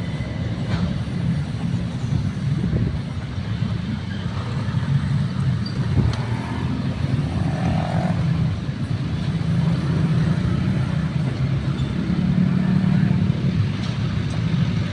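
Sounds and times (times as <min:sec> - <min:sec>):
coal train rumbling: 0:00.0 - 0:14.9.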